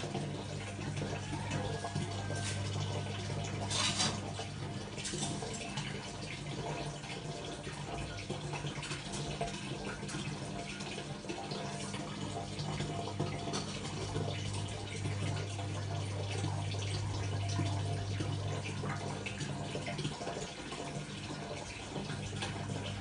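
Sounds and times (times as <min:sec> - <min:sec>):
water running from a tap: 0:00.0 - 0:23.0.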